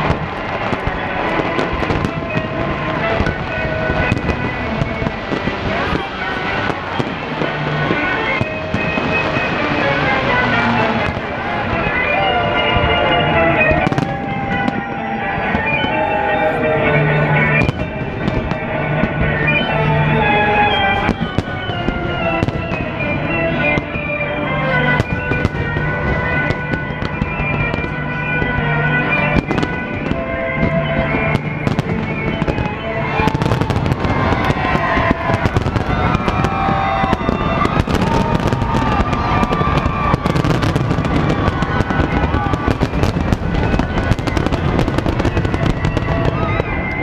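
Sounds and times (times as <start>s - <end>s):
fireworks bursting and crackling: 0.0s - 47.0s
music with held tones: 0.0s - 47.0s.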